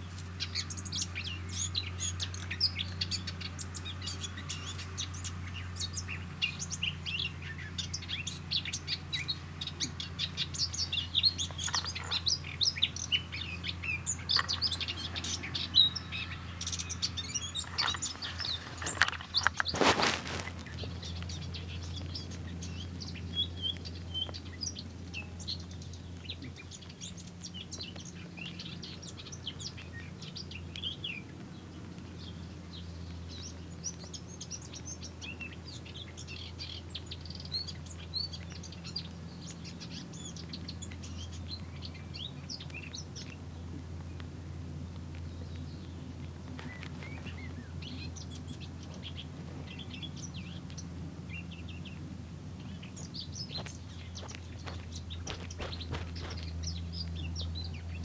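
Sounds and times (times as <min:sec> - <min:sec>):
garden birds chirping: 0:00.0 - 0:58.0.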